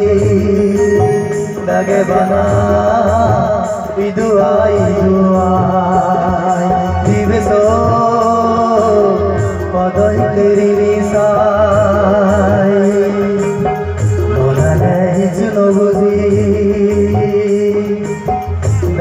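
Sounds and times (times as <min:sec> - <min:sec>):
drums: 0:00.0 - 0:19.0
man singing into a microphone: 0:00.0 - 0:19.0.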